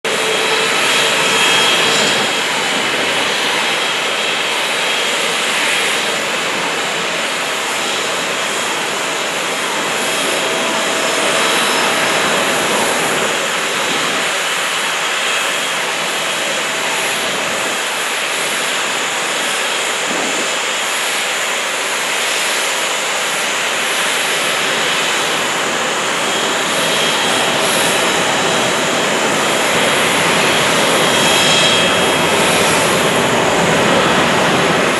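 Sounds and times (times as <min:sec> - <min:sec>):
jet engine rush: 0:00.0 - 0:34.9.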